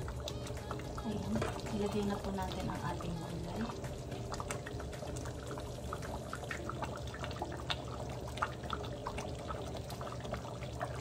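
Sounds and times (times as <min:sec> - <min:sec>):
thick sauce bubbling: 0:00.0 - 0:11.0.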